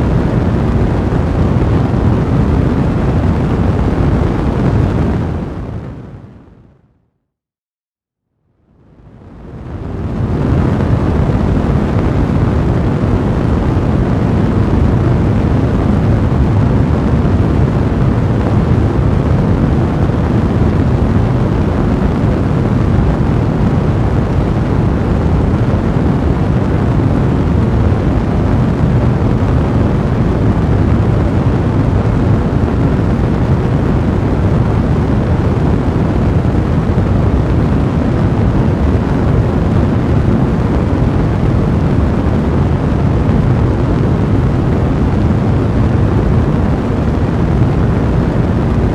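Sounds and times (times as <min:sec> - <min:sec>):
large fire roaring: 0:00.0 - 0:06.5, 0:08.8 - 0:48.9.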